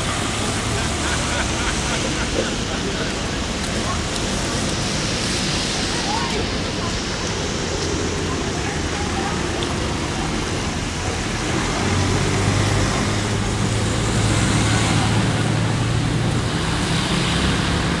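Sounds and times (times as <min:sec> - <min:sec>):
cars passing slowly: 0:00.0 - 0:18.0.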